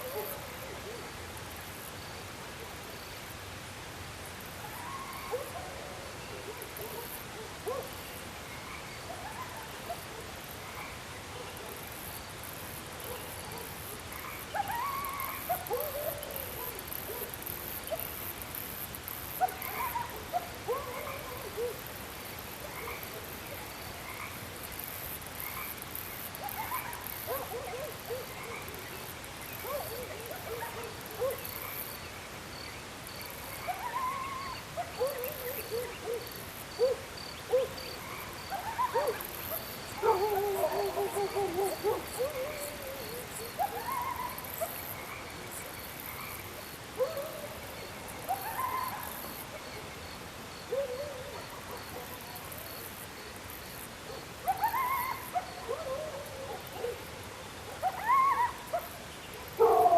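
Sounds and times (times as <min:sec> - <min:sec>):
high insect chorus: 0:00.0 - 0:59.9.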